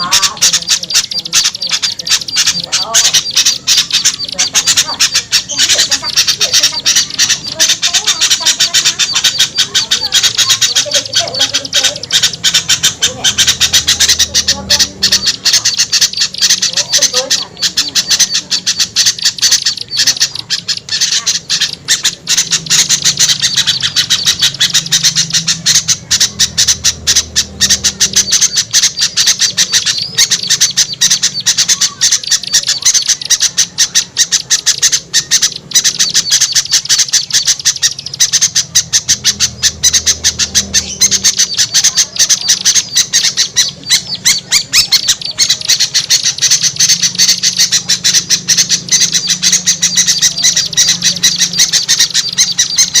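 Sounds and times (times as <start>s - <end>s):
chorus of songbirds chattering: 0.0s - 53.0s.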